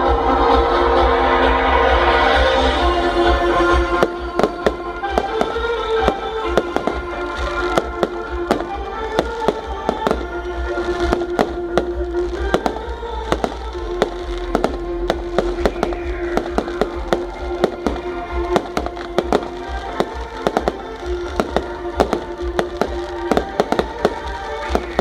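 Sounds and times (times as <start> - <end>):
music with long held note: 0.0 - 25.0
fireworks cracking and banging: 3.2 - 25.0.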